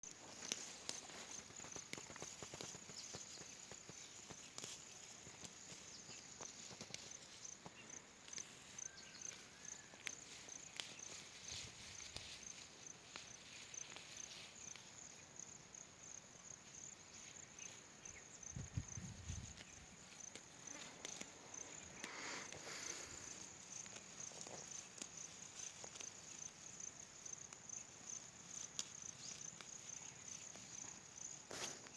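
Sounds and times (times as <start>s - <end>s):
insects trilling: 0.1s - 31.9s.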